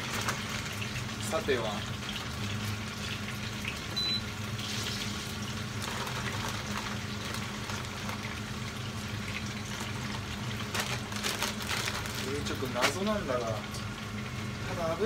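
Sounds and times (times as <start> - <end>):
fries sizzling in hot oil: 0.0 - 15.0.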